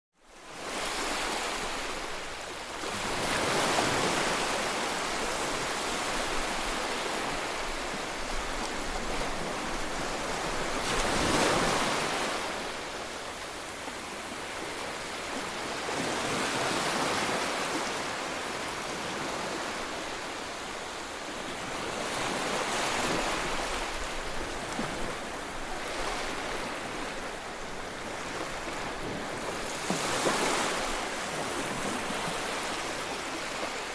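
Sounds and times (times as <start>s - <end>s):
sea waves washing: 0.6s - 33.9s.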